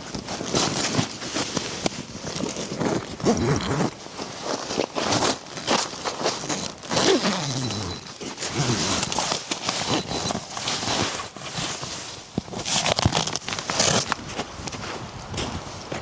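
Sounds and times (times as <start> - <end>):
footsteps crunching through snow: 0.2 - 16.0.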